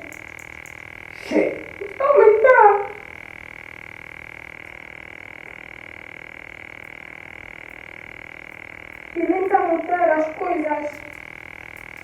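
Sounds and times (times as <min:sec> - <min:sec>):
high-pitched pulsing whine: 0:00.0 - 0:12.0.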